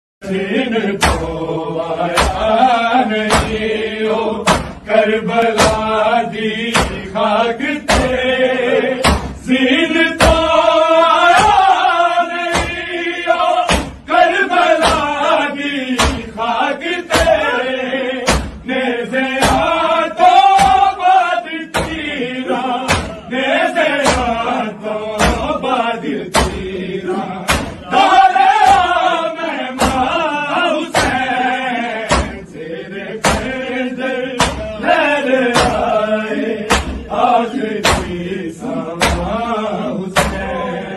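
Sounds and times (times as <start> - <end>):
man chanting a lament: 0.2 - 40.9
sharp rhythmic thumps: 0.2 - 40.9.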